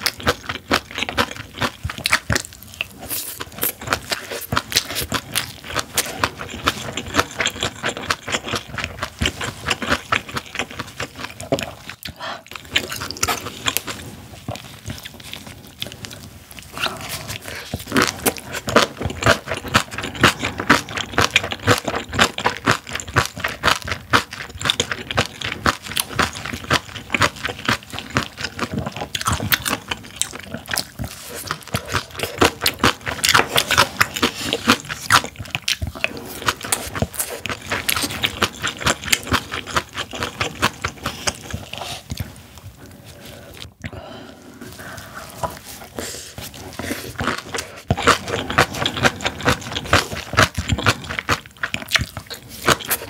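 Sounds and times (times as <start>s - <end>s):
wet crunchy chewing: 0.0s - 53.0s.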